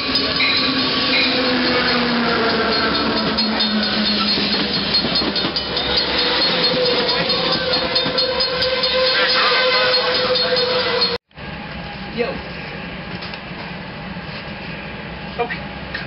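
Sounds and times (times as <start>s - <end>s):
train rail noise: 0.0s - 16.0s.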